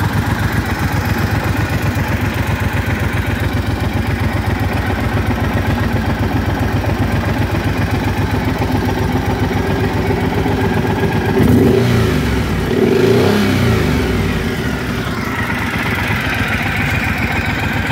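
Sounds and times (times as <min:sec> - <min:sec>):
motorcycle engine idling and revving: 0:00.0 - 0:17.9.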